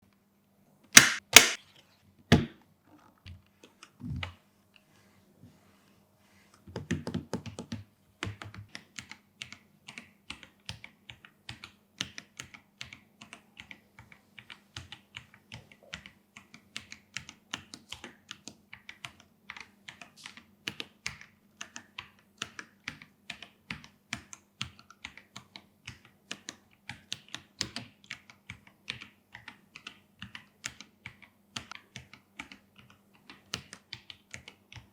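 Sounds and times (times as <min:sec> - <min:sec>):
mechanical keyboard typing: 0:06.8 - 0:34.9.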